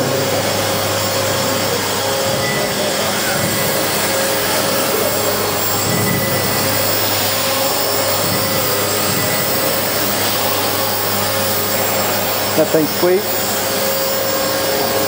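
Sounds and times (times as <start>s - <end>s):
model helicopter motor whining: 0.0s - 15.0s.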